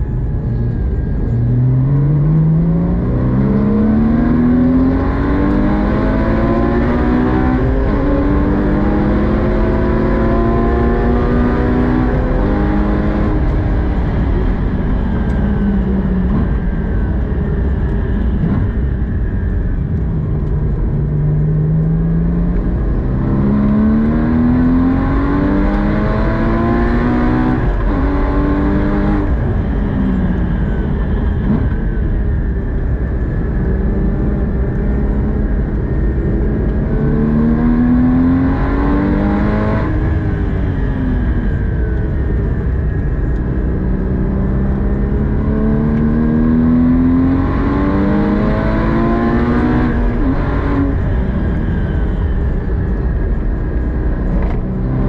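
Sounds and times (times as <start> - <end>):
road and tyre rumble: 0.0 - 55.0
car engine revving through gears: 0.6 - 15.4, 19.9 - 30.2, 33.5 - 55.0.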